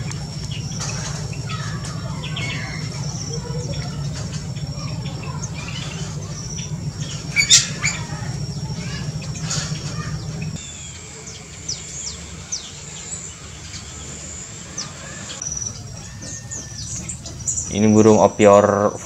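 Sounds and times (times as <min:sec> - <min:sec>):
aviary birds calling: 0:00.0 - 0:19.0
steady low hum: 0:00.0 - 0:19.0.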